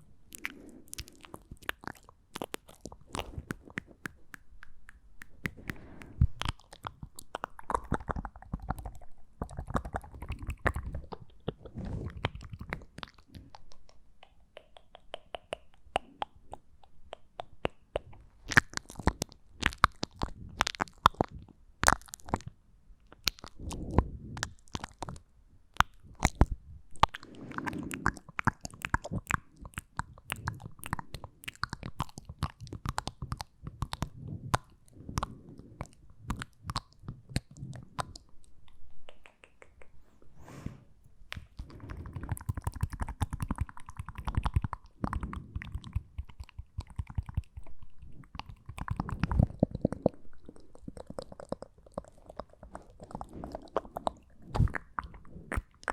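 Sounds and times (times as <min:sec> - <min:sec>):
tongue and lip clicks: 0:00.0 - 0:40.7, 0:41.3 - 0:55.9.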